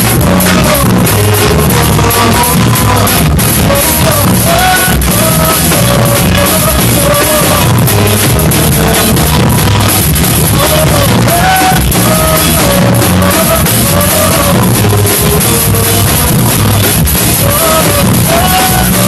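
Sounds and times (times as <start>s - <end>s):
drum kit playing steady beat: 0.0s - 19.0s
person singing: 0.0s - 19.0s
rock gospel song: 0.0s - 19.0s.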